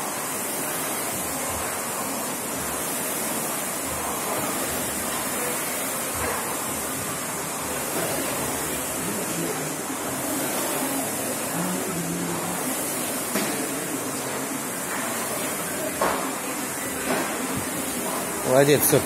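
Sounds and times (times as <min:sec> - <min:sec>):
rowing machine fans whooshing: 0:00.0 - 0:19.0.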